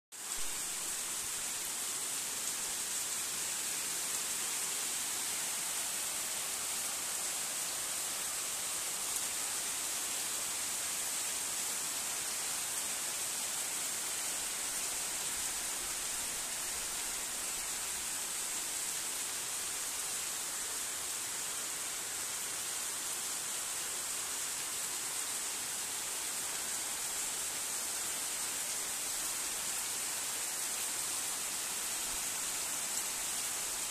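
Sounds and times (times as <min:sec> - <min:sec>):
heavy rain on trees and ground: 0:00.1 - 0:33.9.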